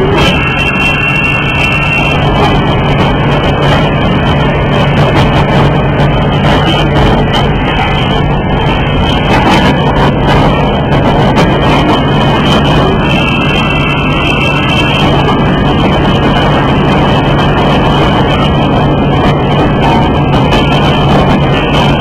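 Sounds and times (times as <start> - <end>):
low hum: 0.0 - 22.0
machine mechanical drone: 0.0 - 22.0.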